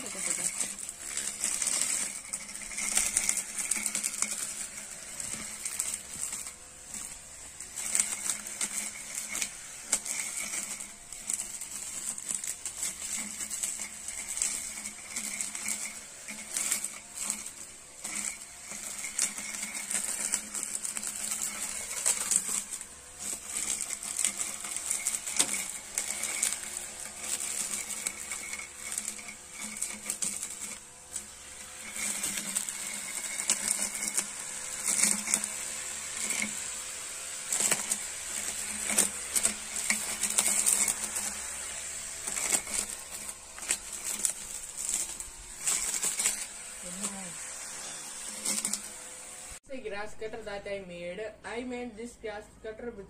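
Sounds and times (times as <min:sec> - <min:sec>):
blade striking plants: 0:00.0 - 0:49.6
electric motor whirring: 0:00.0 - 0:49.6.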